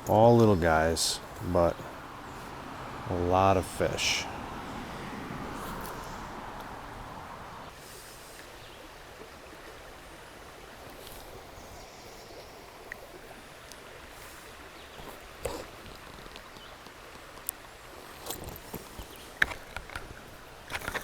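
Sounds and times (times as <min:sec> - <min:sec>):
shallow river water running: 0:00.0 - 0:21.0.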